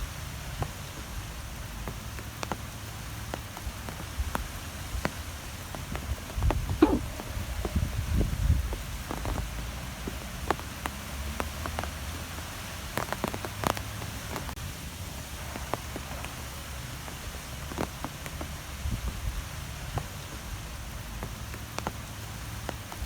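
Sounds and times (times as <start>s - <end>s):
wind rumble and hiss: 0.0s - 23.0s.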